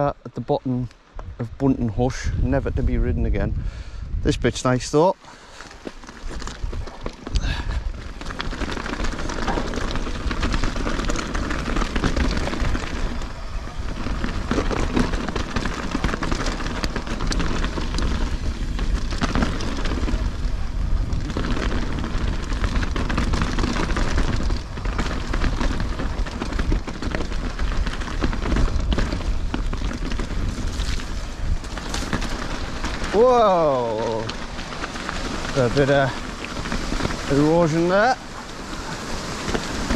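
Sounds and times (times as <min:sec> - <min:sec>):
wind rumble on microphone: 0:00.0 - 0:39.9
bike rattling on stones: 0:00.7 - 0:39.9.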